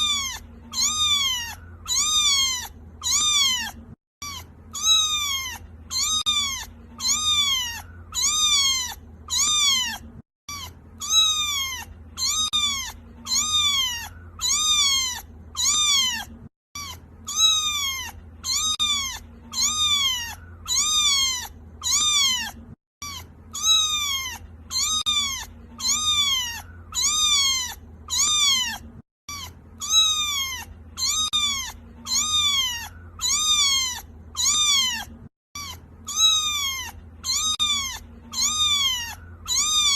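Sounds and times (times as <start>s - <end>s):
kitten meowing: 0.0s - 39.9s.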